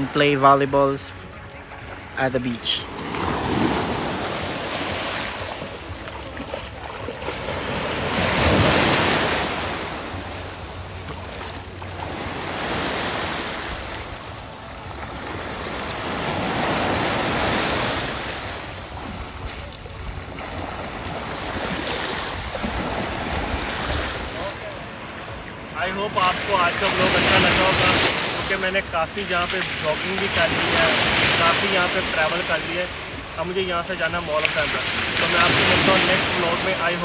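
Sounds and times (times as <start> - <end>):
waves washing on sandy beach: 0.0 - 37.0.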